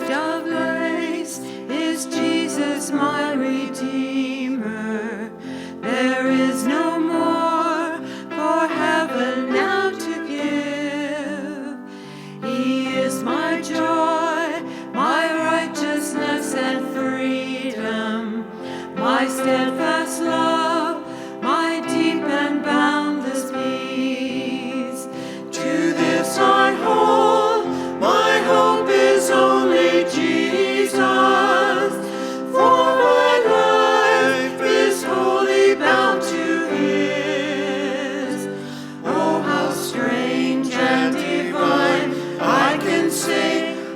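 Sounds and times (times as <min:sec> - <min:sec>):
group singing: 0:00.0 - 0:11.6, 0:12.4 - 0:43.9.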